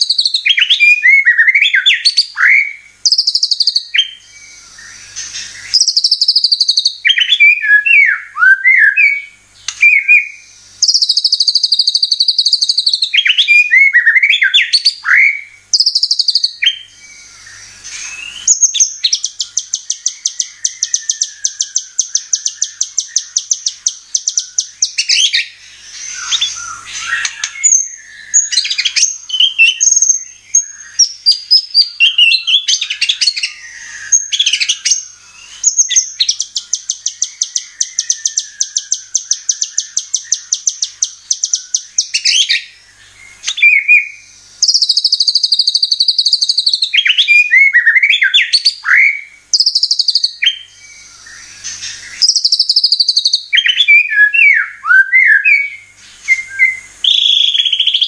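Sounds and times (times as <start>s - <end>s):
songbird singing trills: 0.0s - 58.0s.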